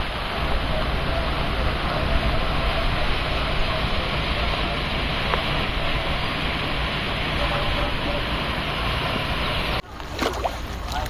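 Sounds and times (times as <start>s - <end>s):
fast-flowing river water: 0.0s - 11.0s
wind: 0.0s - 11.0s.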